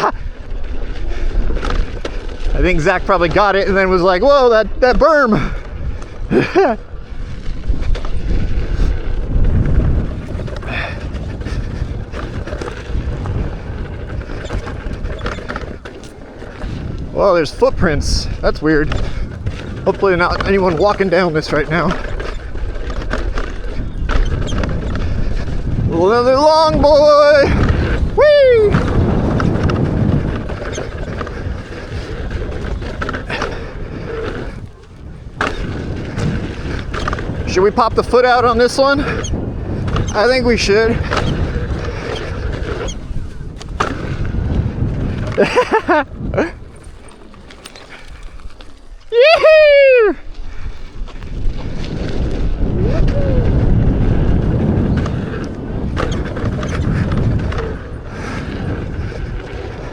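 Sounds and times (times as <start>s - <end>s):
wind rushing over microphone: 0.0s - 59.9s
tyre rolling on dirt: 5.2s - 59.9s.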